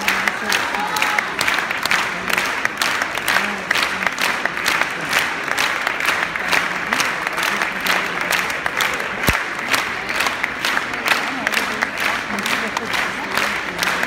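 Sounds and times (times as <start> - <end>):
audience applauding: 0.0 - 14.0
sharp claps nearby: 0.0 - 14.0.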